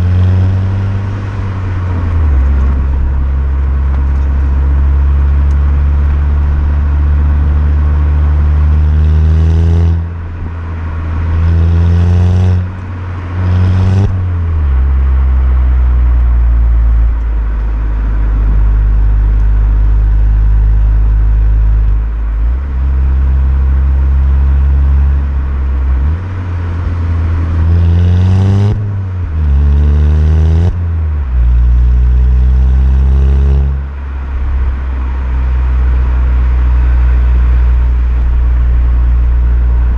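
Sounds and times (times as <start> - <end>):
car engine droning: 0.0 - 39.9
engine revving: 0.0 - 39.9.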